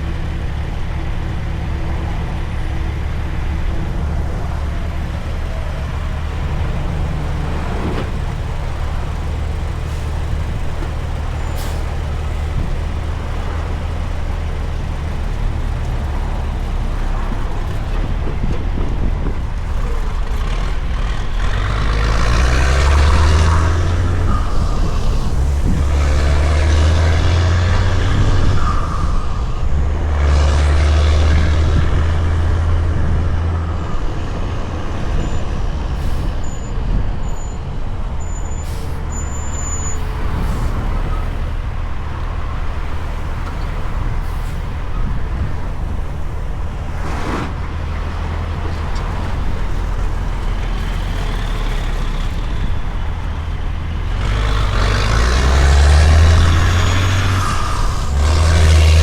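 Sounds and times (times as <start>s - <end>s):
truck diesel engine rumbling: 0.0s - 59.0s.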